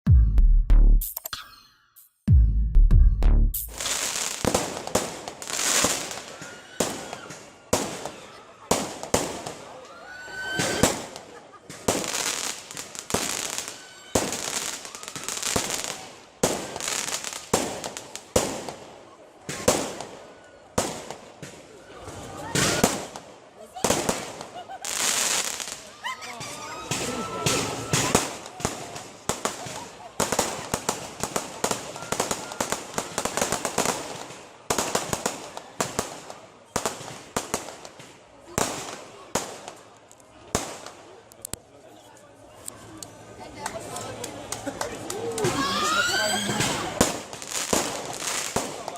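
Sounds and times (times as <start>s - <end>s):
fireworks bursting with crackling: 3.6s - 9.8s, 10.4s - 41.6s, 43.6s - 48.9s.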